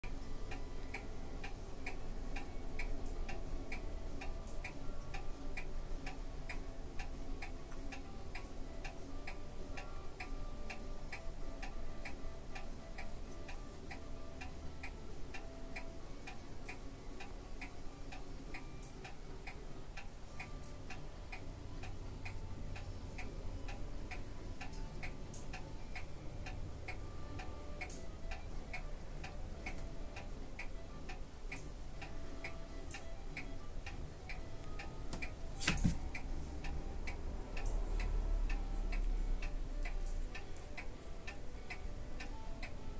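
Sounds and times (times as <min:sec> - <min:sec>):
steady ticking: 0:00.0 - 0:42.9.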